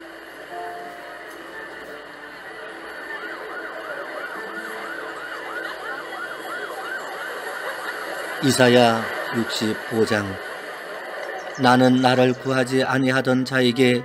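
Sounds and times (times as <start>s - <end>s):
faint background music: 0.0s - 14.0s
siren yelping: 0.5s - 14.0s.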